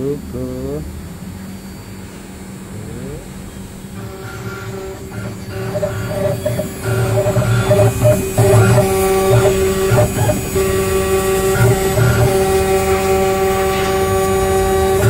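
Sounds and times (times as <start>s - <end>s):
cnc router motor whine: 0.0s - 15.0s
stepper motor tones and pulses: 0.0s - 15.0s.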